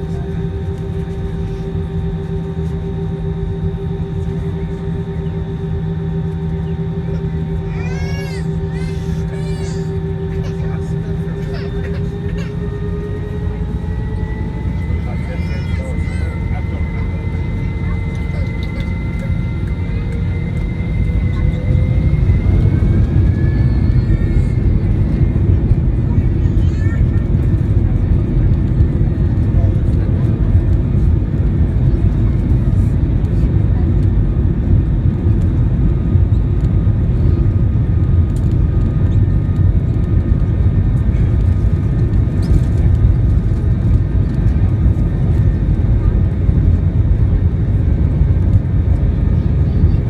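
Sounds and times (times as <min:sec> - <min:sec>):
jet engines rumbling and whining: 0:00.0 - 0:50.0.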